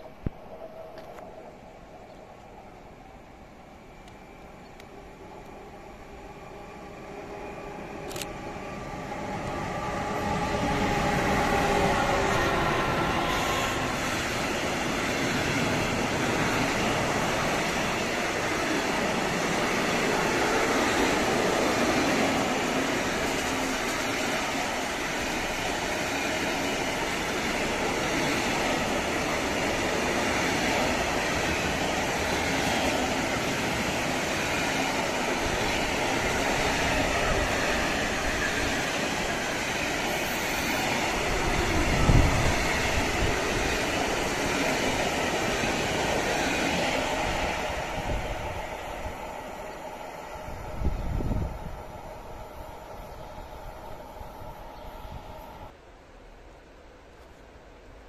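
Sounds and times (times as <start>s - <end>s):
electric locomotive tones: 0.1s - 55.8s
train wheels rumbling on rails: 3.9s - 55.8s.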